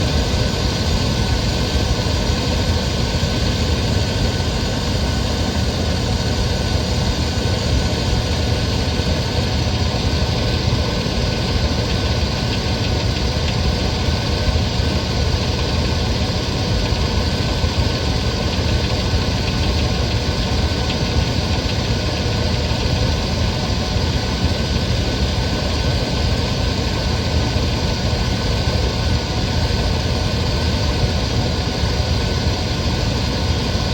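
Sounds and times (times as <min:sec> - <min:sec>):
engine idling: 0:00.0 - 0:33.9
engine knock: 0:00.0 - 0:33.9.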